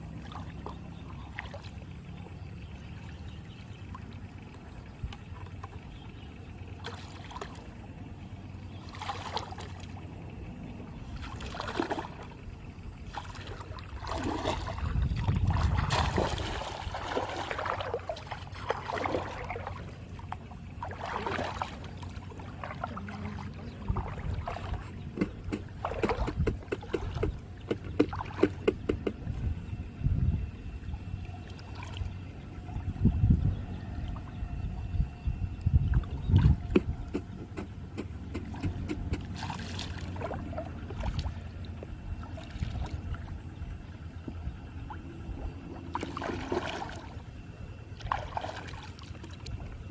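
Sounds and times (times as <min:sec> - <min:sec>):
steady low hum: 0:00.0 - 0:49.9
water splashing and sloshing: 0:00.0 - 0:49.9.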